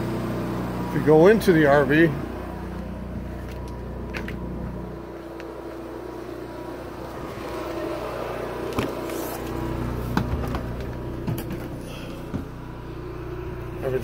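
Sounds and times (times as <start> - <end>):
generator humming: 0.0 - 14.0.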